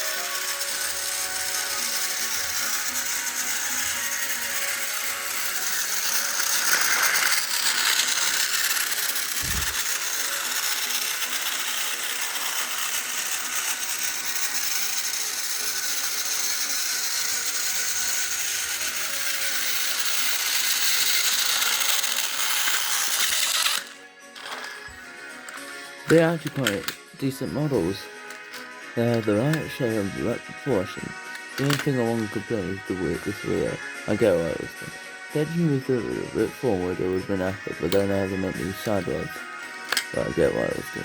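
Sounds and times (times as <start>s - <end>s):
toy train motor whirring: 0.0s - 41.0s.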